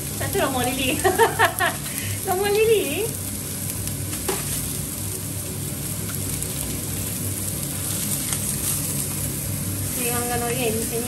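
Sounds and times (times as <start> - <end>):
meat sizzling on griddle: 0.0 - 11.0.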